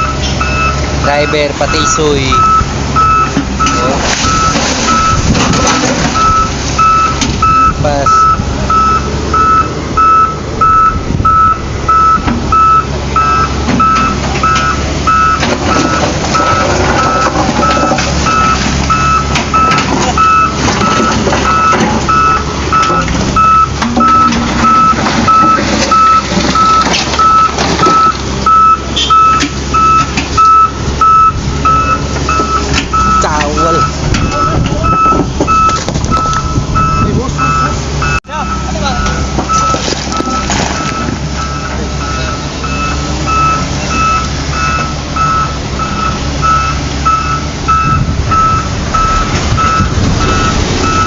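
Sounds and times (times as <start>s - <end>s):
truck engine rumble: 0.0s - 51.0s
truck reversing alarm beeping: 0.0s - 51.0s.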